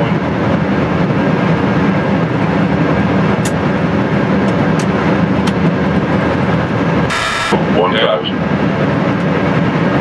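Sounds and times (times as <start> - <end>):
airflow and engine noise: 0.0 - 10.0.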